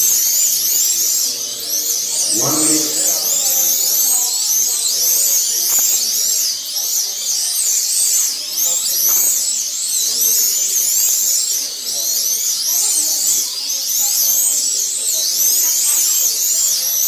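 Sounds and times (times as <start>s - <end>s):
murmur of voices: 0.0s - 17.0s.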